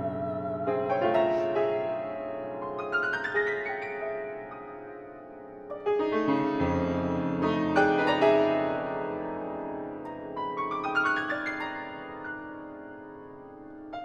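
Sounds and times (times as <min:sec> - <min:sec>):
grand piano playing: 0:00.0 - 0:14.0.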